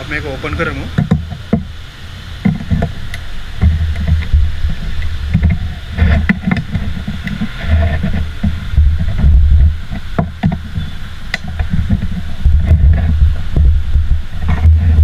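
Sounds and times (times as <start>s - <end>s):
low rumbling handling noise: 0.0s - 15.0s.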